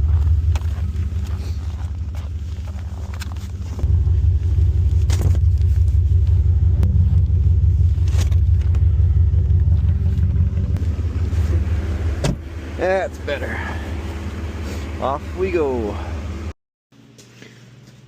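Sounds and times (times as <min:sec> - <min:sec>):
car engine low rumble: 0:00.0 - 0:16.6.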